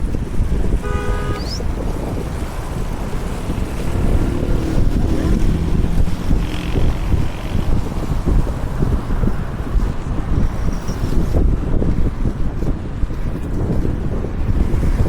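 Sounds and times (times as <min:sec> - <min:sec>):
skateboard wheels rolling on asphalt: 0:00.0 - 0:15.0
wind buffeting microphone: 0:00.0 - 0:15.0.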